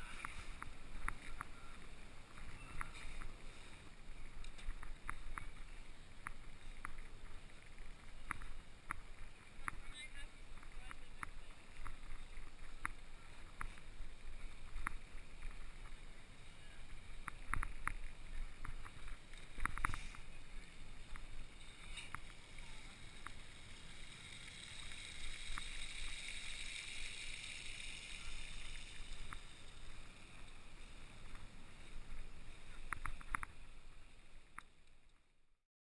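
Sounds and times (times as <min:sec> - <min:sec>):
bicycle ride rumble: 0:00.0 - 0:35.6
bike clicks and rattles: 0:04.2 - 0:16.0, 0:16.9 - 0:35.3.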